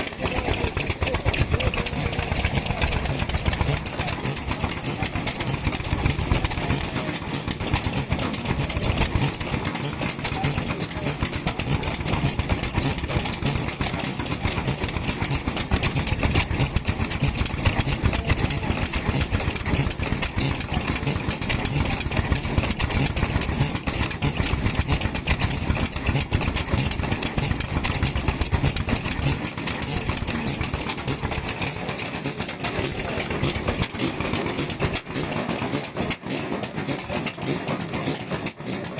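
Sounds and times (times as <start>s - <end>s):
stationary engines running: 0.0s - 38.9s.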